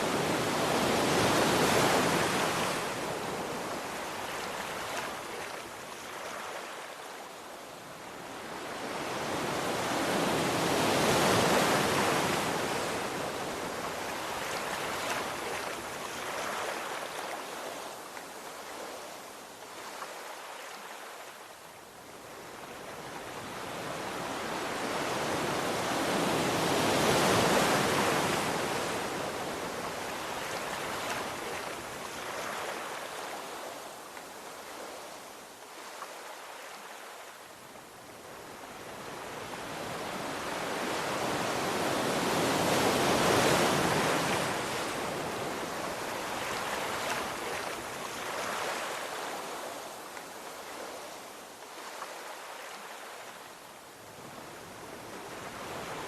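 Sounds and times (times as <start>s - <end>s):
sea waves breaking on shore: 0.0s - 21.5s, 22.1s - 56.0s.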